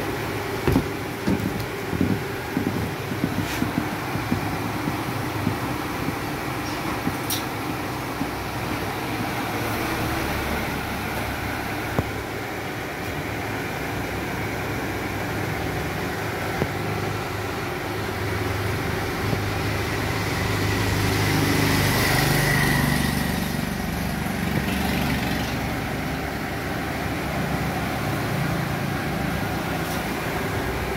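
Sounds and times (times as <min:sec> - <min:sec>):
road traffic hum: 0:00.0 - 0:30.9.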